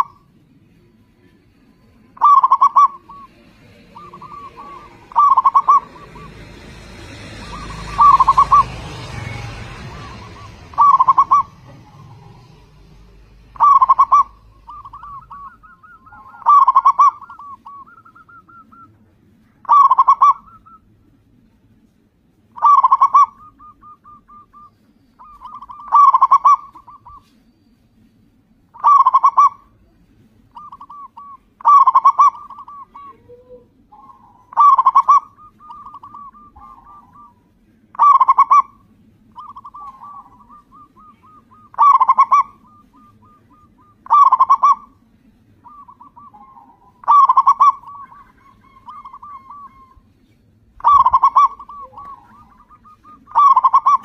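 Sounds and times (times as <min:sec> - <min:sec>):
dove cooing: 0:00.0 - 0:00.3, 0:02.2 - 0:20.8, 0:22.6 - 0:27.4, 0:28.8 - 0:50.2, 0:50.8 - 0:54.0.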